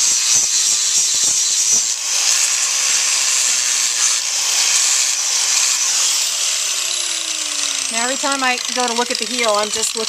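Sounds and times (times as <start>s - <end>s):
angle grinder sanding hoof: 0.0s - 10.0s.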